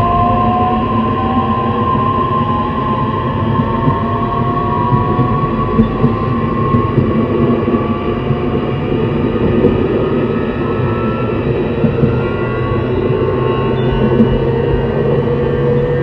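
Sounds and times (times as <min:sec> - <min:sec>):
electric train motor whine: 0:00.0 - 0:16.0
wheels rumbling on rails: 0:00.0 - 0:16.0.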